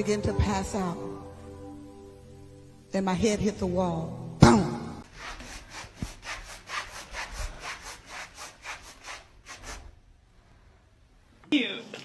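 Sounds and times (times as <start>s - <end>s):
rhythmic rasping strokes: 0.0s - 9.8s.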